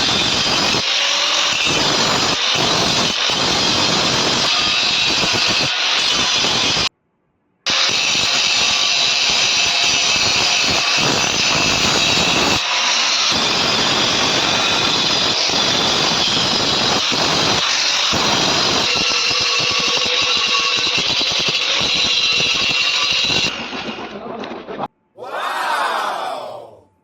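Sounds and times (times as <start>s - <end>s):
angle grinder grinding metal: 0.0s - 6.9s, 7.7s - 23.5s.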